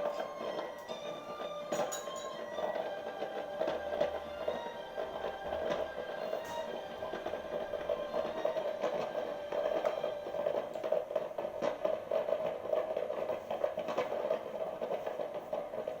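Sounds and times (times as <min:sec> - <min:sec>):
fireworks crackling and popping: 0:00.0 - 0:16.0
steady background noise: 0:00.0 - 0:16.0.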